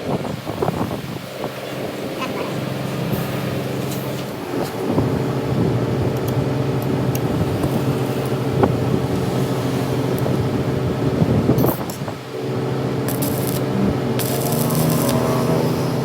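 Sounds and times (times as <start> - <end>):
machine humming: 0.2 - 16.0.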